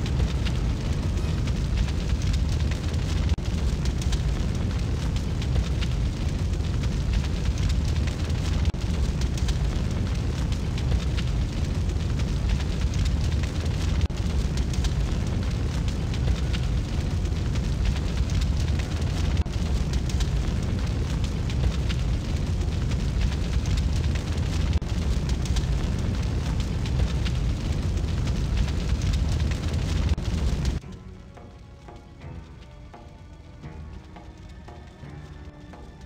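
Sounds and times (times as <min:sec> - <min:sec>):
large fire rumbling and crackling: 0:00.0 - 0:36.0.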